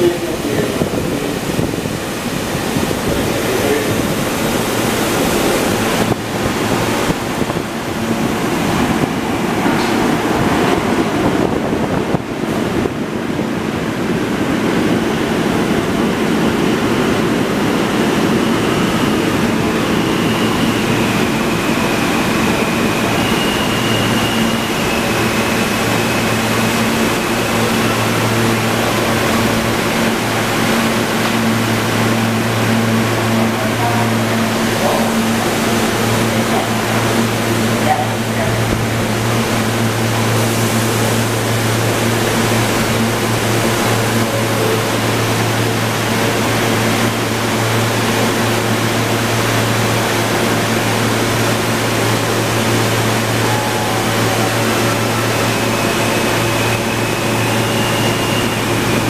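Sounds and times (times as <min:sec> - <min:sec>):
high whine: 0:00.0 - 0:59.0
subway train wheels roaring: 0:00.0 - 0:59.0.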